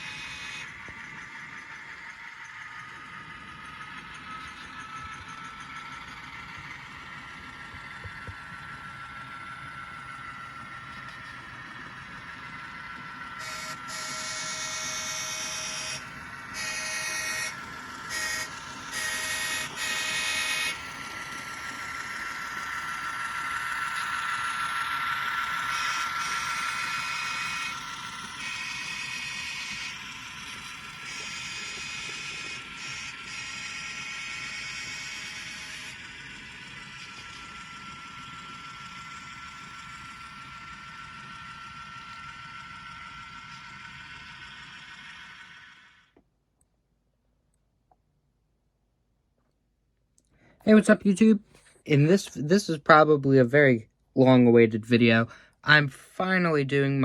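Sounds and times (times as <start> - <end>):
diesel locomotive engine running: 0.0 - 46.2.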